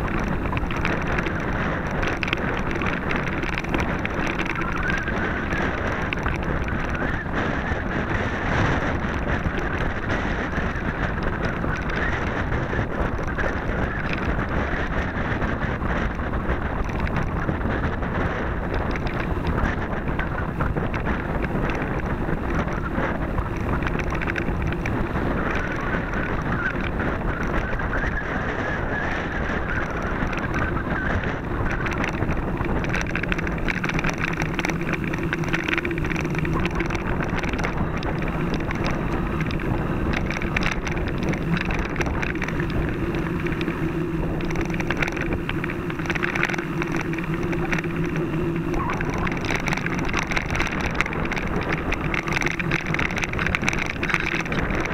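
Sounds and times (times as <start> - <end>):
bike rattling over rough trail: 0.0 - 54.9
wind on microphone: 0.0 - 54.9.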